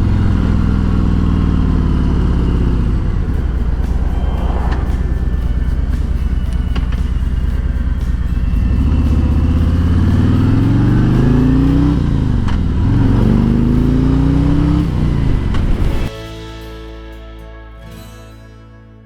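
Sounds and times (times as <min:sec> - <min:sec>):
motorcycle engine accelerating: 0:00.0 - 0:16.1
music: 0:02.8 - 0:19.0.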